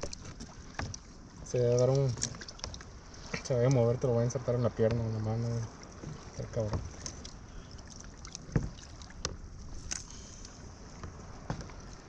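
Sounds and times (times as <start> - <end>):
water and wind wash: 0.0 - 12.0.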